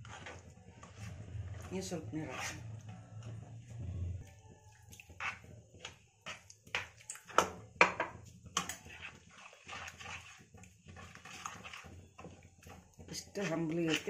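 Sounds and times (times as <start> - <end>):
steel spoon scraping a pan: 0.0 - 3.4, 4.8 - 7.4, 8.4 - 14.0.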